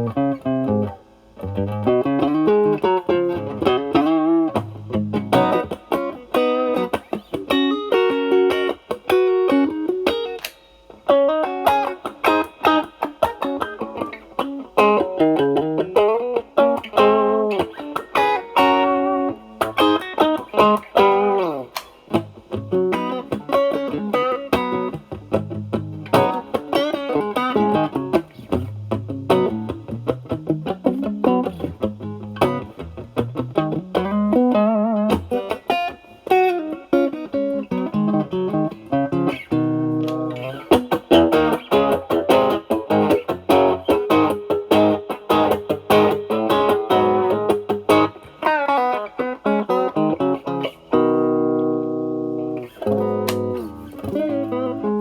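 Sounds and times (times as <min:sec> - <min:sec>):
overdriven electric guitar lead: 0:00.0 - 0:55.0.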